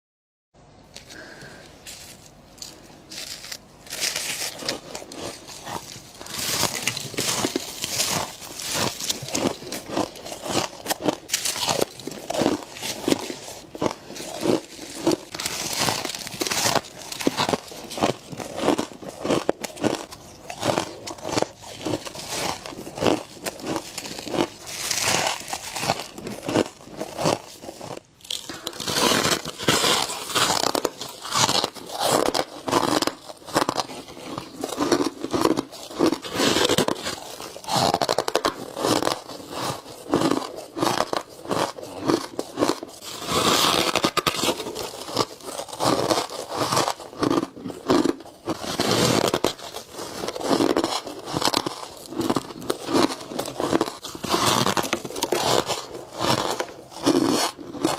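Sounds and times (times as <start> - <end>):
crunching frost ice: 1.0 - 57.9
squeaky chewing: 2.6 - 57.9.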